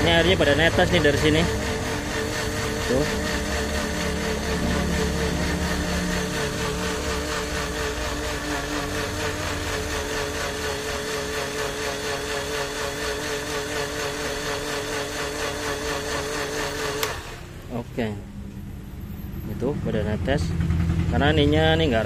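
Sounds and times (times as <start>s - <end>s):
blender motor running: 0.0s - 19.4s.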